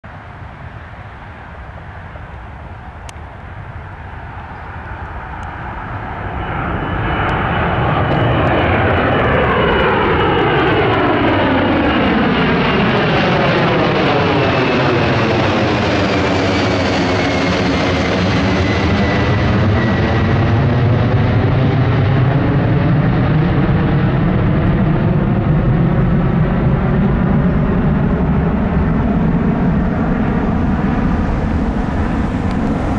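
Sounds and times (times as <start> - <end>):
jet airliner roar: 0.1 - 32.9
jet engine high whine: 0.1 - 32.9.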